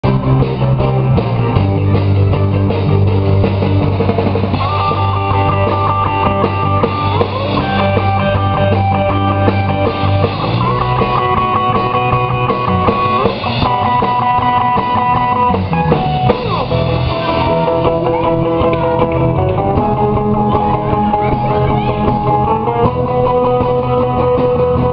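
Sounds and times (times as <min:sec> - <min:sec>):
rock and roll band playing: 0:00.0 - 0:24.9.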